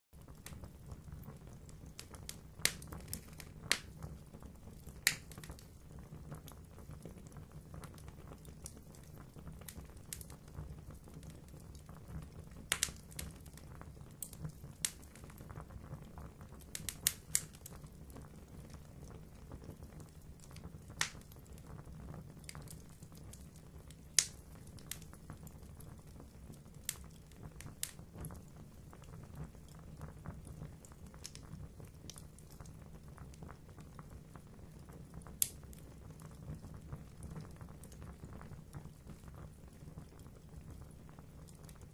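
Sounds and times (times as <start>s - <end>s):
fire crackling and popping: 0.2s - 41.9s
low rumble of flames: 0.2s - 41.9s.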